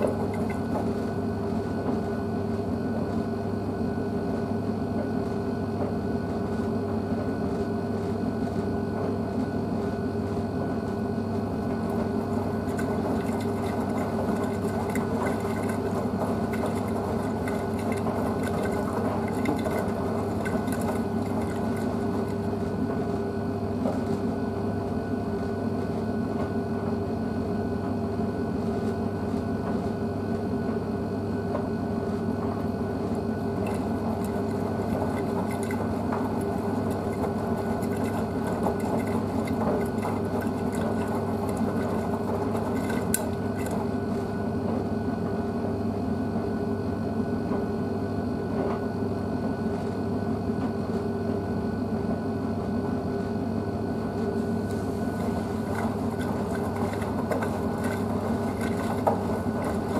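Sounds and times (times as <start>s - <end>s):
washing machine drum motor humming: 0.0s - 59.9s.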